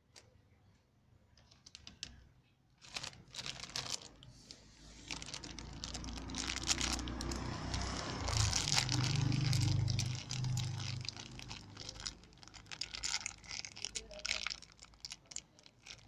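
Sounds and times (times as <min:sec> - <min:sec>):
plastic bag crinkling: 0:02.8 - 0:16.0.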